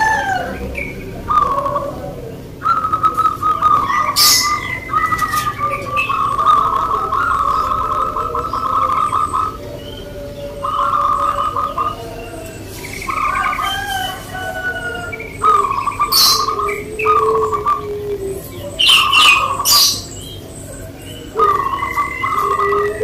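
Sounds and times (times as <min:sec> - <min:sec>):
birds chirping: 0:00.0 - 0:23.0
doves cooing: 0:00.0 - 0:23.0
sharp loud bird calls: 0:00.0 - 0:23.0.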